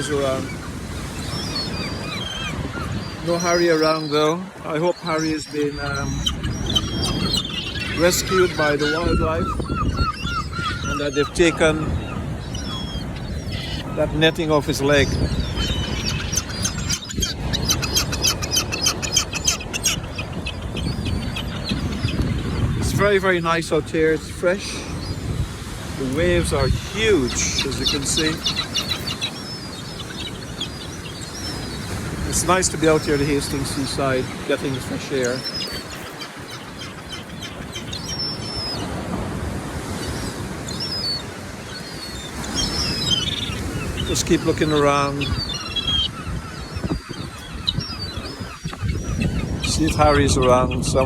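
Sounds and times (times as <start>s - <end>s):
gulls calling: 0.0s - 51.0s
sea waves breaking on shore: 0.0s - 51.0s
surf: 0.0s - 51.0s
wind: 0.0s - 51.0s.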